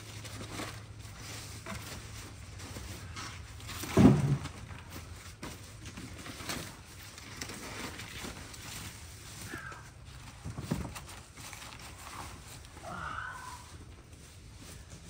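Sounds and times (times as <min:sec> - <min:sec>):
dry brush rustling: 0:00.0 - 0:03.8, 0:04.6 - 0:15.0.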